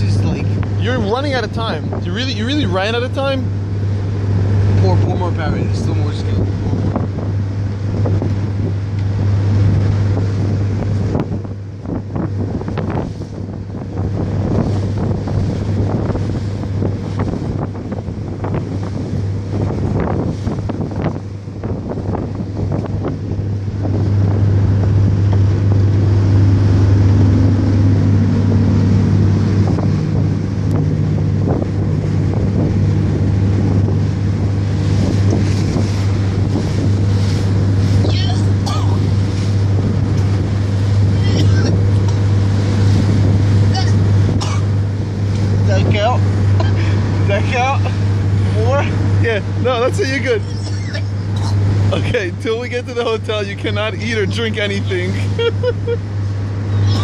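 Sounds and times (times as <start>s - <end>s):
low boat engine drone: 0.0s - 57.0s
wake water rushing: 0.0s - 57.0s
wind buffeting microphone: 0.0s - 57.0s.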